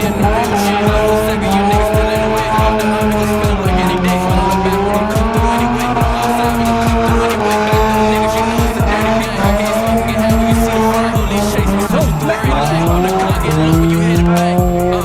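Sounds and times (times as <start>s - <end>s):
car engine at high revs: 0.0s - 15.0s
tires squealing: 0.0s - 15.0s.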